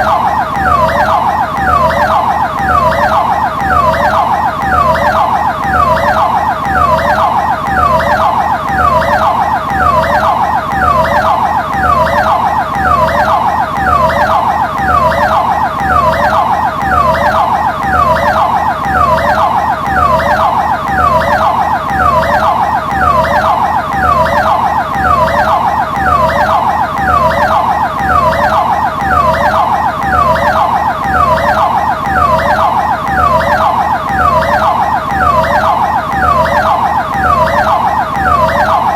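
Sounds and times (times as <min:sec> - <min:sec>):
ambulance siren: 0:00.0 - 0:38.9.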